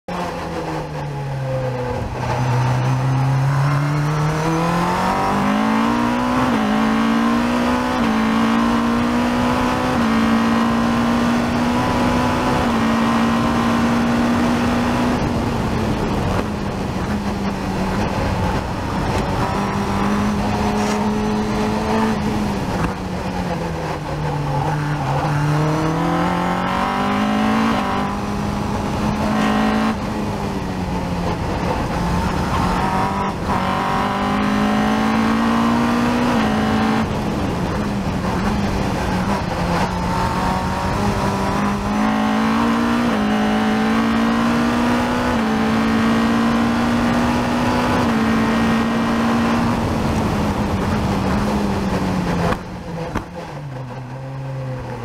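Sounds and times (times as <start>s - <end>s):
car engine revving: 0.1s - 55.0s
wind and road noise: 0.1s - 55.0s.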